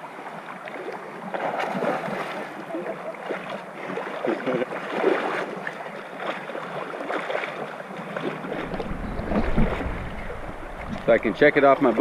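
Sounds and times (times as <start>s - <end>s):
water splashing from swimming: 0.0s - 12.0s.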